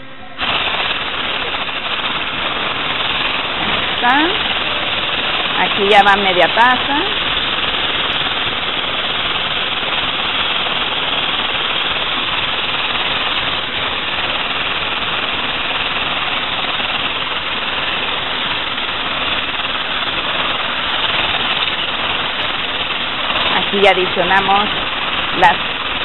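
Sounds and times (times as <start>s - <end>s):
electric hand mixer whirring: 0.0s - 26.0s.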